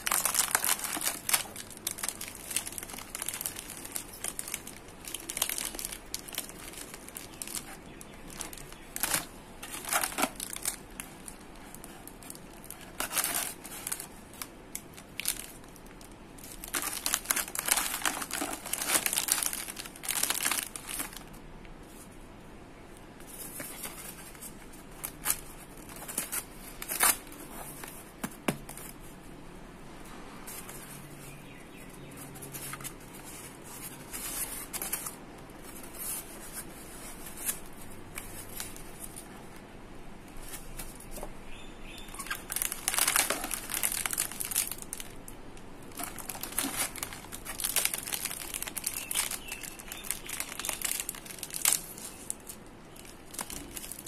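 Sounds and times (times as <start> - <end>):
plastic wrappers crinkling: 0.0 - 22.0, 23.2 - 29.2, 30.5 - 39.4, 40.3 - 54.0.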